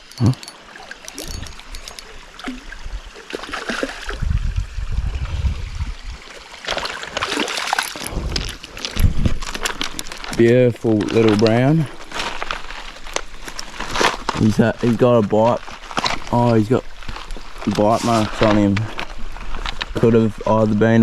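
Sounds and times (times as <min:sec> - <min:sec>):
creek water splashing: 0:00.4 - 0:04.8, 0:05.9 - 0:20.0.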